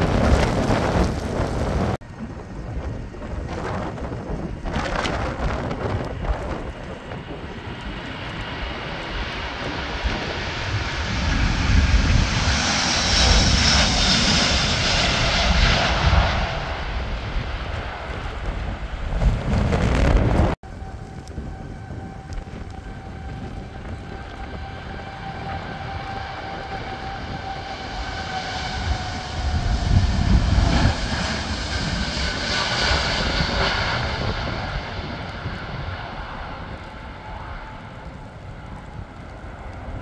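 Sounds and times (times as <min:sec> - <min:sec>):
jet engines at take-off: 0:00.0 - 0:40.0.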